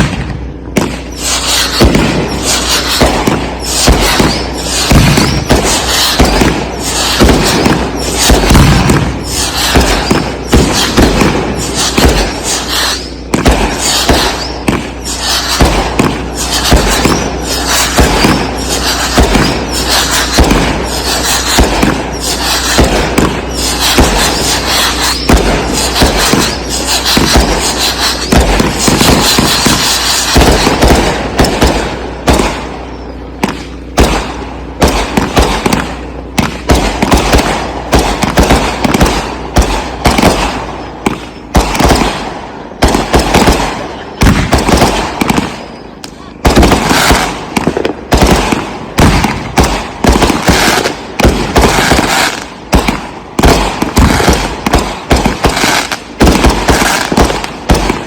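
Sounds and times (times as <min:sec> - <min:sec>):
firework crackle: 0:00.0 - 0:58.0
fireworks launching and bursting: 0:00.0 - 0:58.0.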